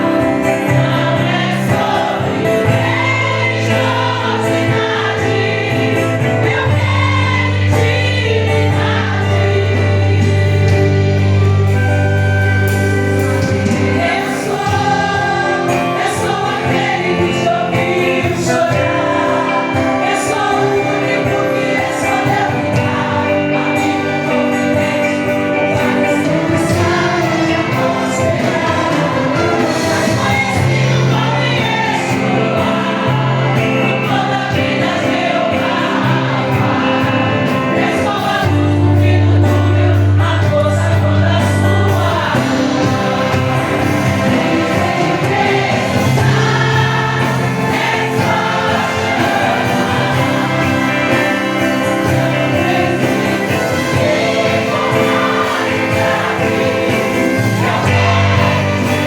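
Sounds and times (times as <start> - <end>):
choir singing gospel music: 0.0 - 59.0
sustained bass notes: 0.0 - 59.0.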